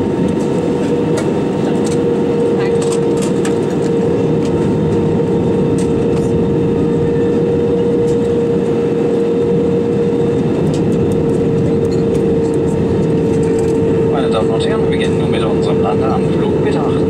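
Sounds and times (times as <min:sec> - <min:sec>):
jet engines roaring: 0:00.0 - 0:17.0
steady cabin hum: 0:00.0 - 0:17.0.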